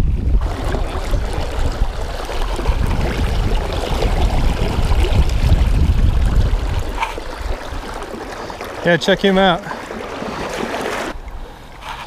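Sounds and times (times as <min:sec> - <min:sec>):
river current rushing around legs: 0:00.4 - 0:12.0.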